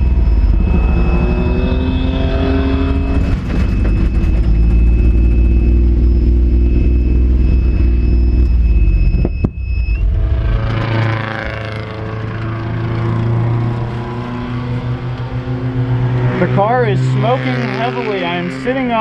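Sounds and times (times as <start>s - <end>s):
race car engine running hard: 0.0s - 19.0s
thin steady whine: 0.0s - 19.0s.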